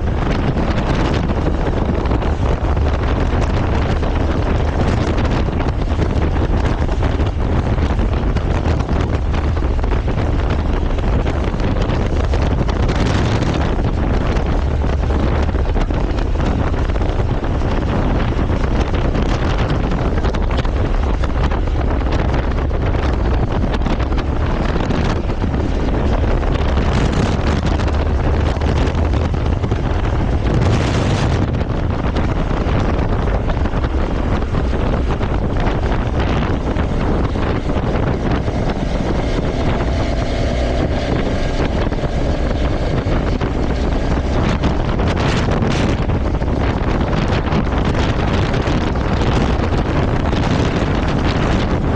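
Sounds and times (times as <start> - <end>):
motorcycle running: 0.0 - 51.9
wind buffeting microphone: 0.0 - 51.9.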